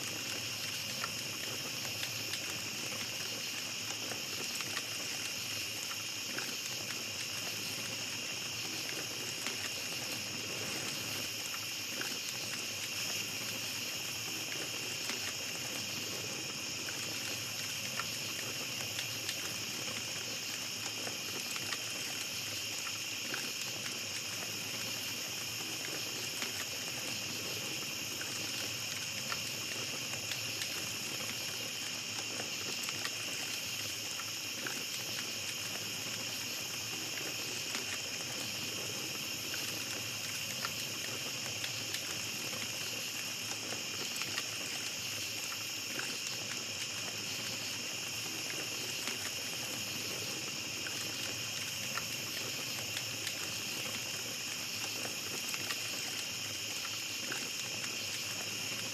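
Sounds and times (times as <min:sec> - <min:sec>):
campfire crackling: 0:00.0 - 0:58.9
night insects chirring: 0:00.0 - 0:58.9.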